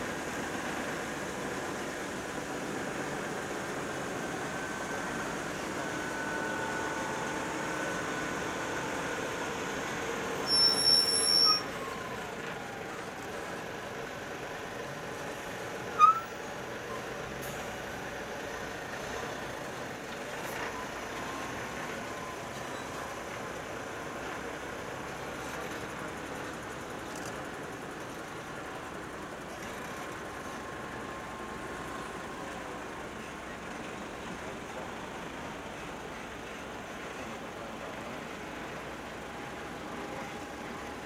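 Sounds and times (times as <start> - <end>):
diesel truck engines running: 0.0 - 41.0.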